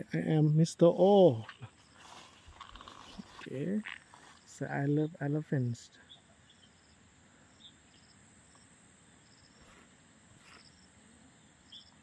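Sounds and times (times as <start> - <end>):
faint high insect chirps: 0.1 - 12.0.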